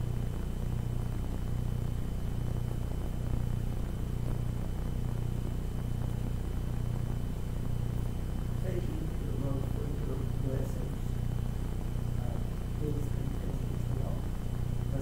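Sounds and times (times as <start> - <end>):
faint high whine: 0.0 - 15.0
throbbing low hum: 0.0 - 15.0.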